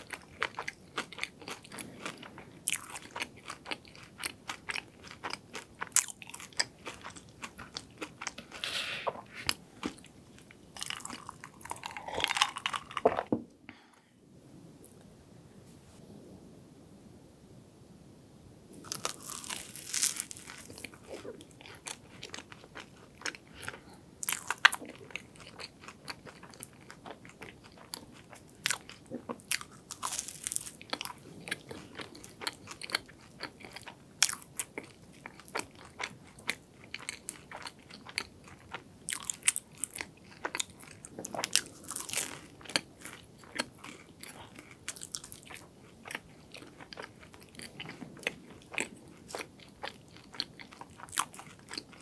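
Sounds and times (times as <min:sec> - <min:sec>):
crunching crisp pastry: 0:00.0 - 0:08.7, 0:09.3 - 0:13.3, 0:18.8 - 0:52.0
chewing: 0:00.0 - 0:13.3, 0:18.8 - 0:52.0.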